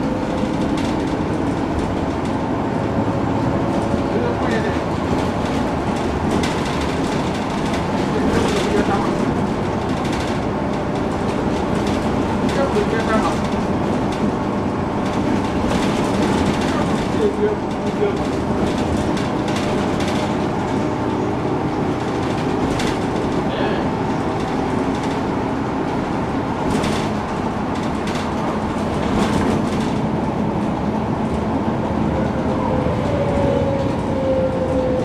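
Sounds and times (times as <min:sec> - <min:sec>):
bus engine and drive noise: 0:00.0 - 0:35.0
rattles and knocks: 0:00.2 - 0:32.0.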